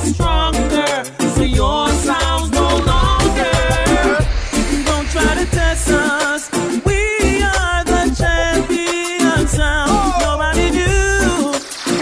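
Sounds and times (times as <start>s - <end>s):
heavy bass line: 1.4s - 11.5s.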